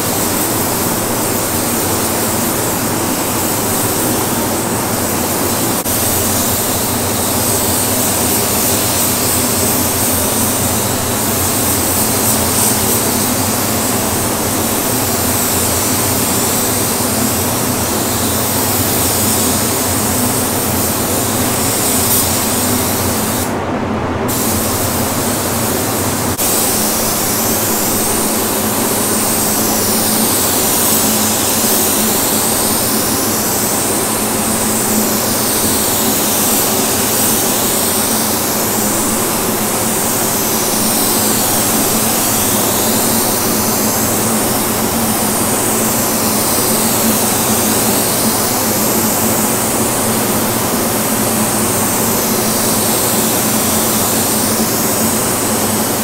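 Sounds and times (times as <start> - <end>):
spray gun hissing: 0.0 - 23.6, 24.3 - 56.0.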